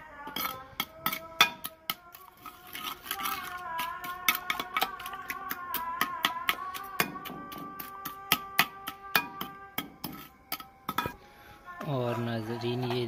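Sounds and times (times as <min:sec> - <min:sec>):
background music: 0:00.0 - 0:13.0
spoon beating eggs in bowl: 0:00.2 - 0:11.2.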